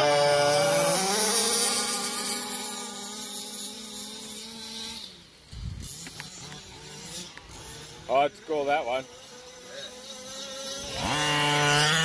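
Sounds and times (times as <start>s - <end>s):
rc car engines whining: 0.0s - 12.0s.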